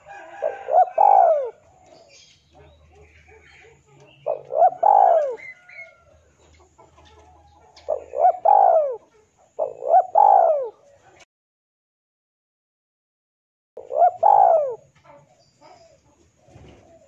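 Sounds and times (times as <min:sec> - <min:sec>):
dove cooing: 0:00.0 - 0:11.2, 0:13.8 - 0:17.0.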